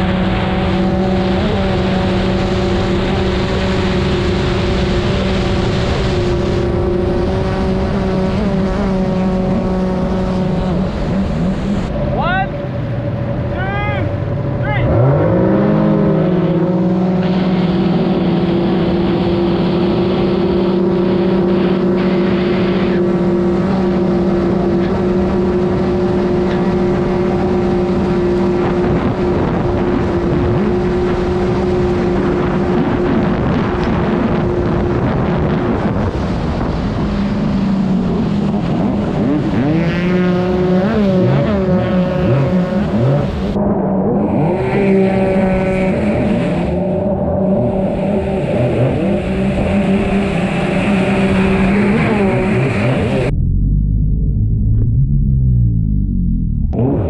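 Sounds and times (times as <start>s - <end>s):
water and wind rush: 0.0s - 53.3s
jet ski engine at full throttle: 0.0s - 53.4s, 55.7s - 57.0s.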